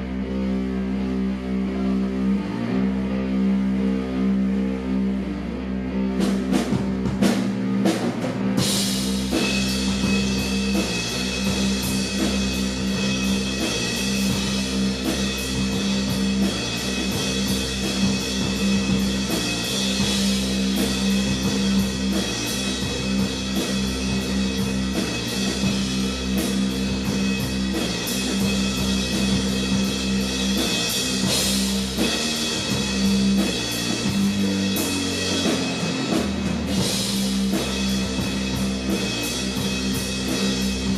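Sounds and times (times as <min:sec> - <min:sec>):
drum kit: 0:00.0 - 0:40.9
heavy rock music: 0:00.0 - 0:40.9
cymbals: 0:08.0 - 0:40.9.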